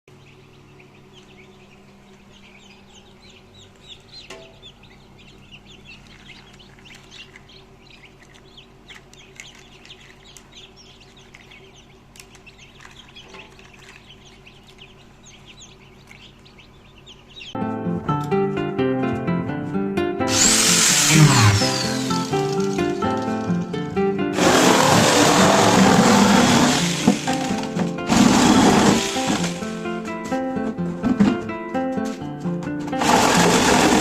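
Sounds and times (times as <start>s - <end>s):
chicks peeping: 0.1s - 34.0s.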